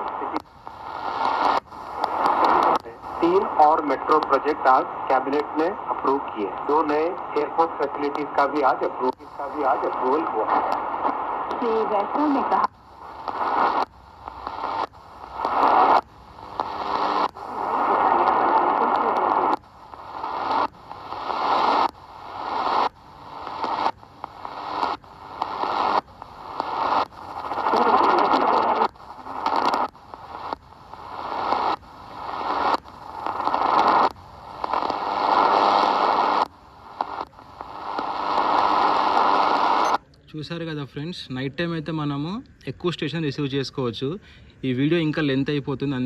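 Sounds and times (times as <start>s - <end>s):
snatches of radio broadcast: 0.0s - 40.0s
radio static and hiss: 0.0s - 46.0s.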